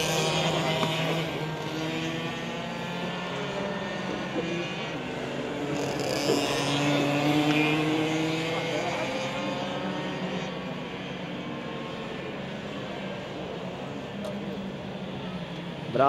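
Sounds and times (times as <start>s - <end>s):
kart engines passing: 0.0s - 16.0s.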